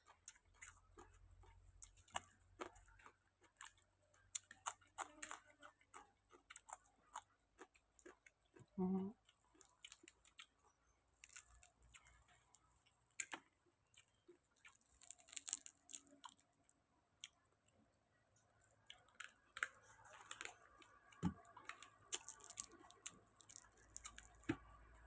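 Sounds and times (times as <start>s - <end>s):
person chewing and crunching: 0.0s - 17.4s, 18.5s - 25.0s.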